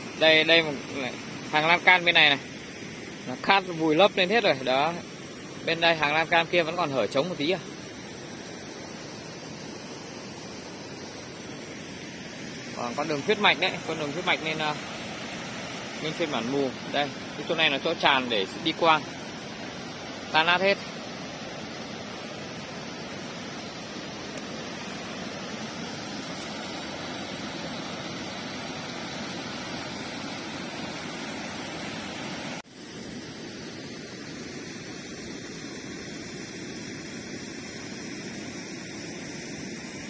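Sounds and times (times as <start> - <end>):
floodwater rushing: 0.0 - 32.6.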